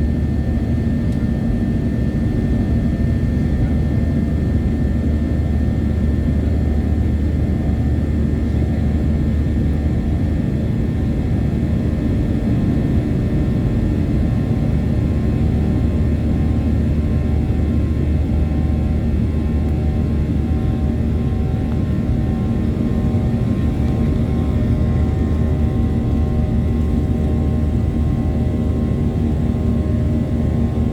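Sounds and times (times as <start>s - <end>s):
jet engine cabin rumble: 0.0s - 30.9s.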